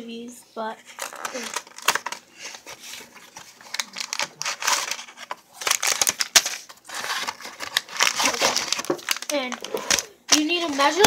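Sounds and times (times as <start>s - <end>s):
cardboard packaging crinkling and tearing: 0.8s - 11.0s.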